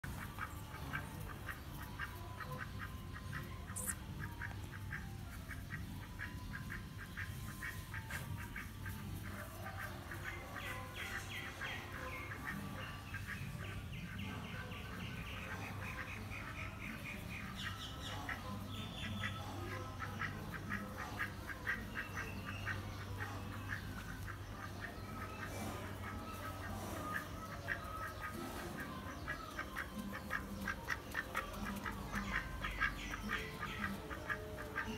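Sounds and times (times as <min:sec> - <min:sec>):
duck quacking: 0:00.0 - 0:34.9.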